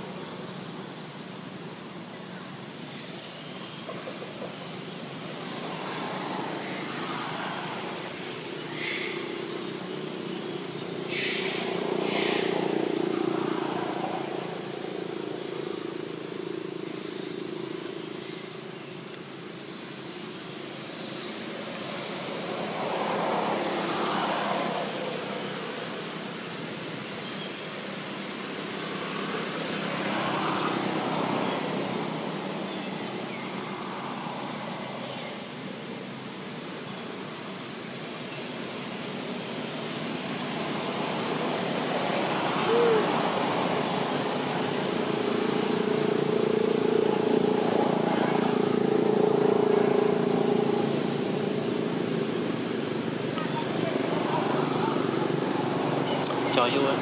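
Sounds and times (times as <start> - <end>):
distant vehicle engines passing: 3.8 - 37.2, 37.9 - 57.0.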